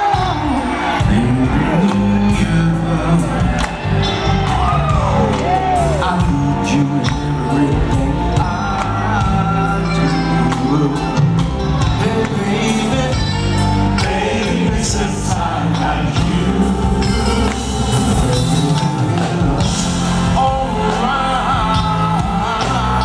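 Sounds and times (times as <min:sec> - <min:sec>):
soul ballad by live band: 0:00.0 - 0:23.0.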